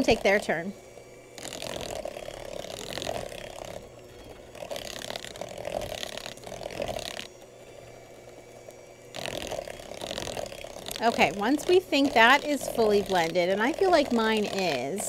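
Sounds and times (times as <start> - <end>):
electric hand mixer whirring: 0.0 - 15.0.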